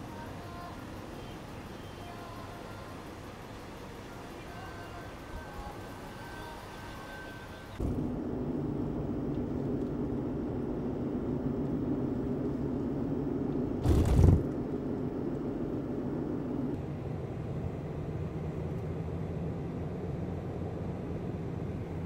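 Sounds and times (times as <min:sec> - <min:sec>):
hum: 0:00.0 - 0:22.0
road and engine drone in car: 0:00.0 - 0:22.0.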